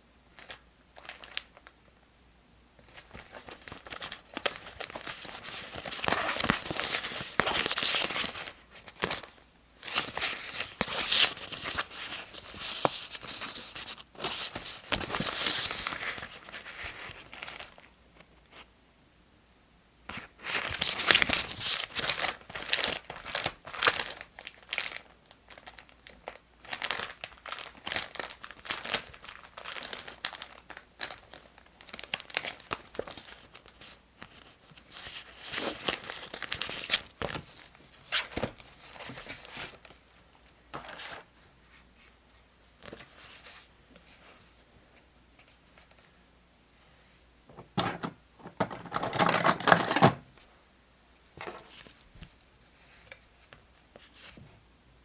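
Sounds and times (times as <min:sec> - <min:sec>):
paper and plastic rustling: 0:00.4 - 0:01.7, 0:02.8 - 0:18.7, 0:20.1 - 0:44.6, 0:47.8 - 0:50.5, 0:51.4 - 0:54.6.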